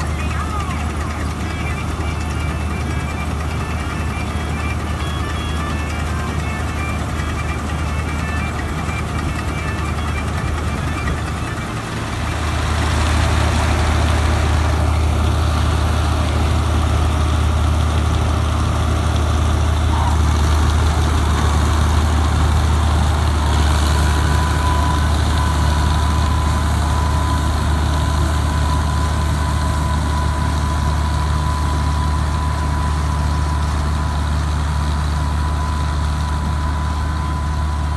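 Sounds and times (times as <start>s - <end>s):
combine harvester diesel engine: 0.0s - 37.9s
thin steady whine: 0.0s - 37.9s.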